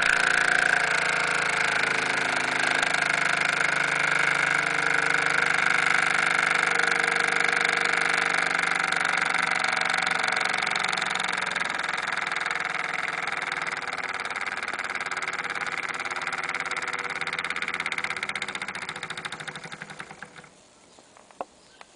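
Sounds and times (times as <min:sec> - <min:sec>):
model steam engine chuffing: 0:00.0 - 0:20.6.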